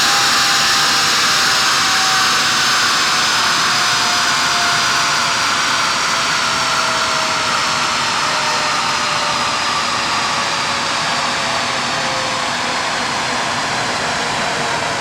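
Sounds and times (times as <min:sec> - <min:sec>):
car engine on dyno: 0:00.0 - 0:15.0.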